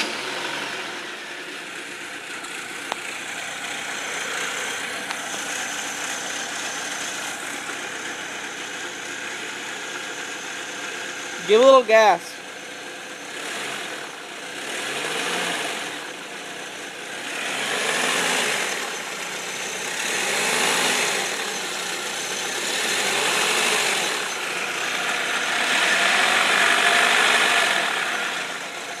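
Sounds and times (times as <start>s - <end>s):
car engine revving: 0.0s - 29.0s
strange belt noise: 0.0s - 29.0s.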